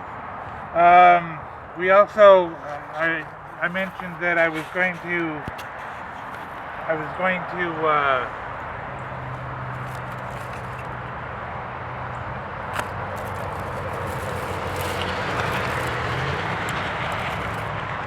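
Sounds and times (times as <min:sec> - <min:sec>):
road noise: 0:00.0 - 0:18.0
vehicle engine hum: 0:00.0 - 0:18.0.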